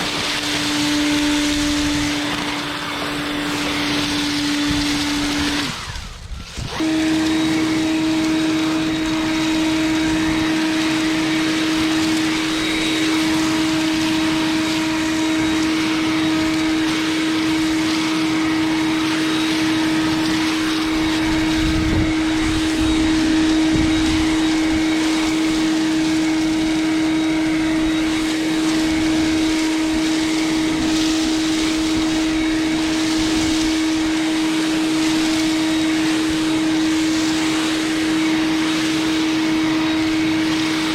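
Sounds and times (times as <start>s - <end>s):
leaf blower running: 0.0s - 40.9s.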